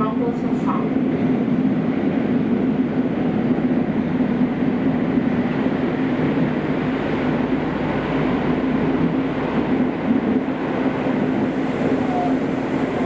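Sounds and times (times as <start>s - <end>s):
train running noise rumble: 0.0s - 13.0s.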